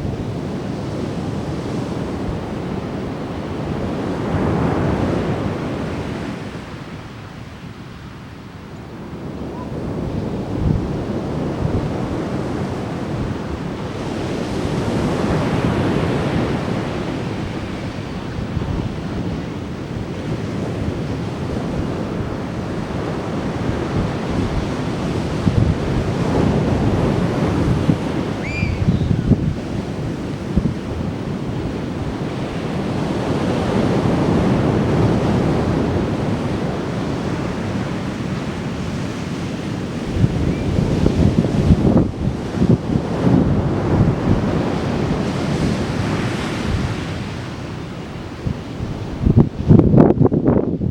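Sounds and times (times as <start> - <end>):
ocean surf breaking: 0.0 - 7.2, 8.2 - 49.8
wind rumbling on microphone: 0.0 - 50.9.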